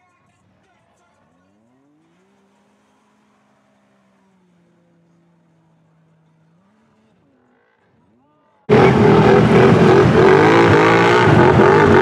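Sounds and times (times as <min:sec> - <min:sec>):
faint utility vehicle engine revving: 0:00.5 - 0:12.0.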